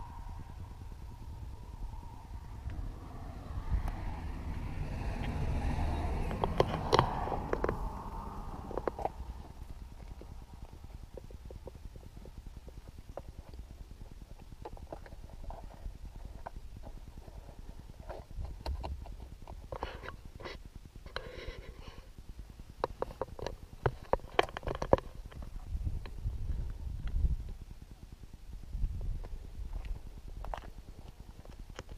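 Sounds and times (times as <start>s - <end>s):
low steady rumble: 0.0s - 31.9s.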